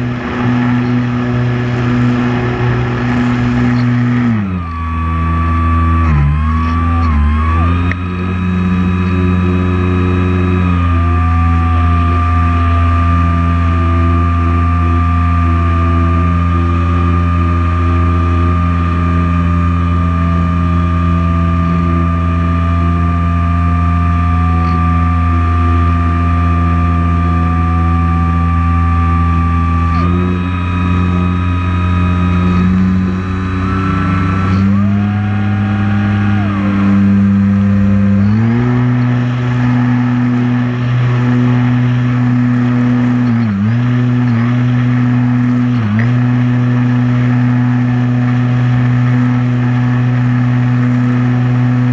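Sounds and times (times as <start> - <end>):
drone propellers whirring: 0.0 - 51.9.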